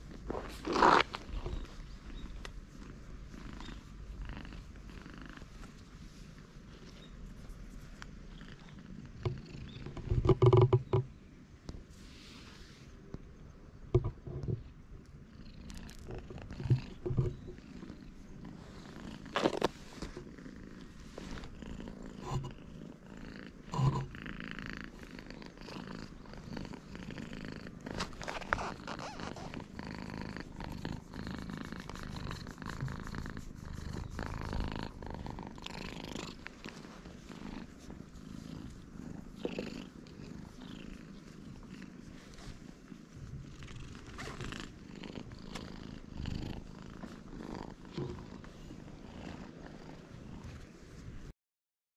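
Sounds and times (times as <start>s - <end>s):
cat purring: 0.0s - 51.3s.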